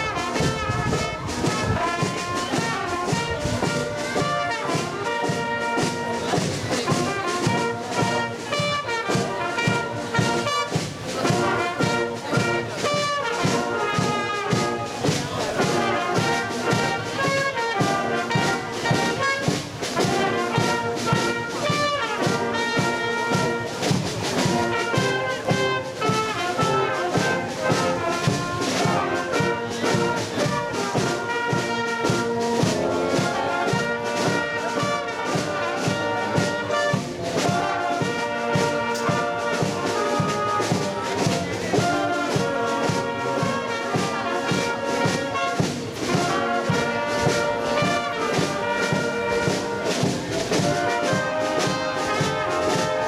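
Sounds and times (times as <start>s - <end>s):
wind band playing: 0.0s - 53.0s.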